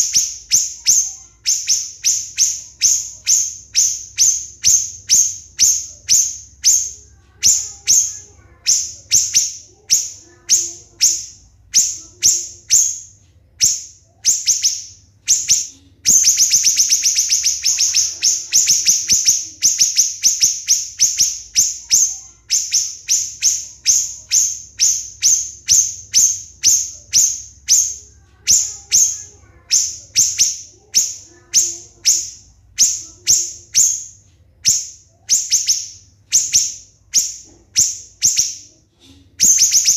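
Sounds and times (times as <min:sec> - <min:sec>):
bird rapid-fire trill: 0:00.0 - 0:38.7, 0:39.4 - 0:39.9
songbird singing sharp notes: 0:00.0 - 0:38.7.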